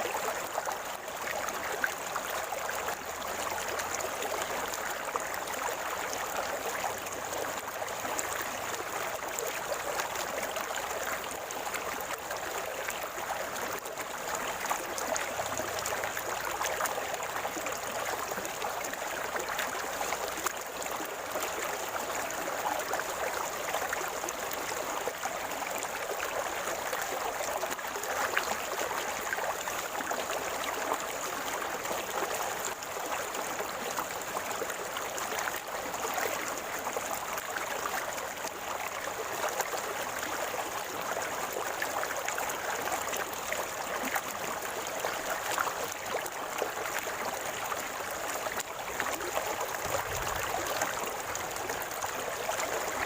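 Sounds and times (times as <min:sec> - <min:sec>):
river water flowing and gurgling: 0:00.0 - 0:53.0.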